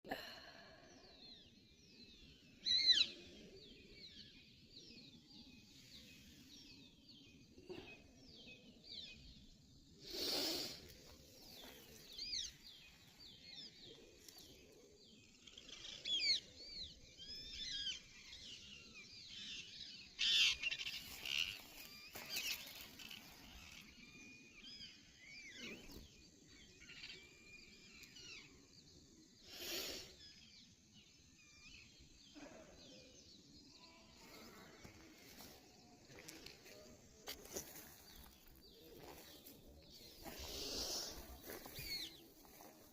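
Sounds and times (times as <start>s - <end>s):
small birds chirping: 0.2s - 42.9s.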